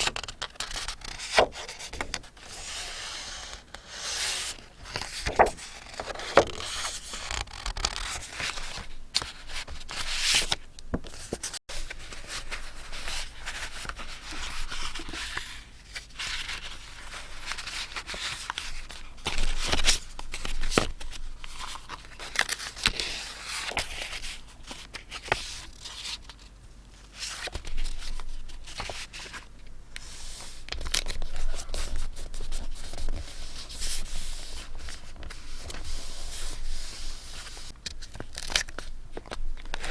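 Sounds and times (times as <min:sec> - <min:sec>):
paper rustling and scraping: 0:00.0 - 0:26.4, 0:27.1 - 0:39.9.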